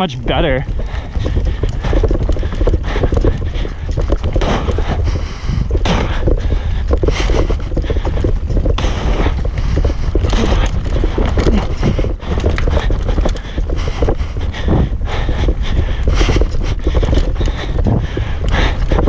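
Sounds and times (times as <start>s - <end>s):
bike rattling over roots: 0.0s - 19.0s
wind rumble on microphone: 0.0s - 19.0s.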